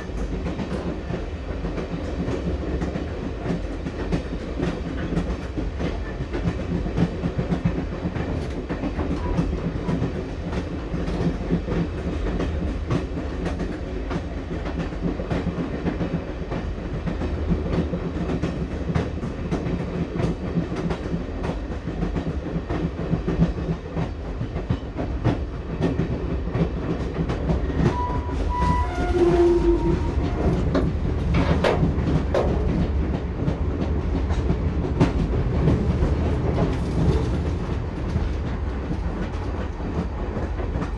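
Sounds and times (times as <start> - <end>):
low rumble of train carriage: 0.0 - 40.9
train wheels clattering over rail joints: 0.0 - 40.9.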